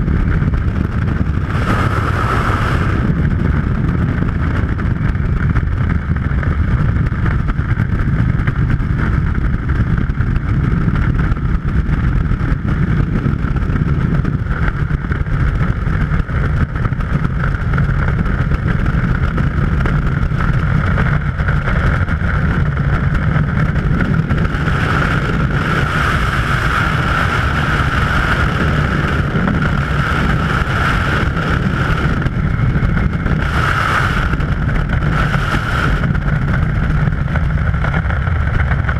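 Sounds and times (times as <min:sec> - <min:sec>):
high wind whistling: 0:00.0 - 0:38.9
wind rushing over microphone: 0:00.0 - 0:38.9.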